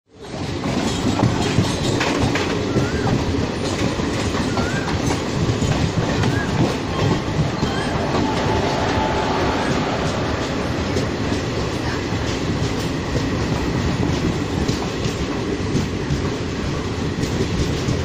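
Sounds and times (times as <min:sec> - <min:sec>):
train rumble and wheel clatter: 0:00.1 - 0:18.0.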